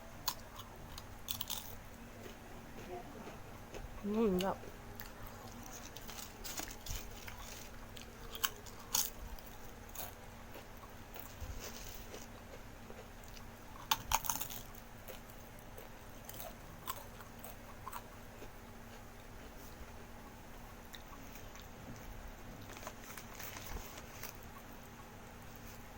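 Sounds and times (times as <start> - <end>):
chewing crisp food: 0.2 - 25.9.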